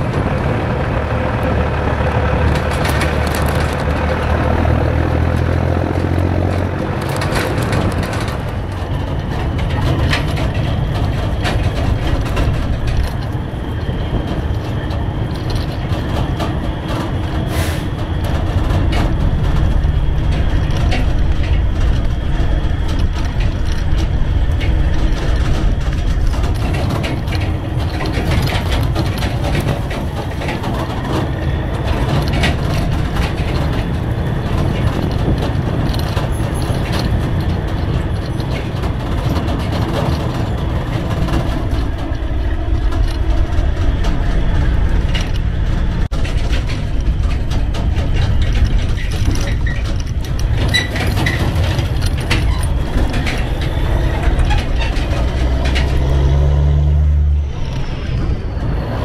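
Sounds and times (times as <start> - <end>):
clicks and rattles: 0.0 - 58.0
truck engine drone: 0.0 - 59.0.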